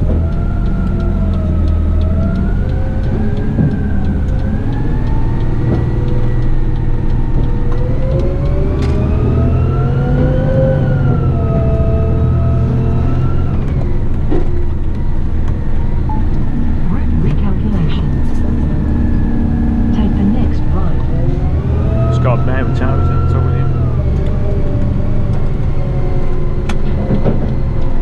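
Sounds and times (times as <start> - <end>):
truck engine and road rumble: 0.0 - 28.0
whine rising and falling in pitch: 0.0 - 28.0.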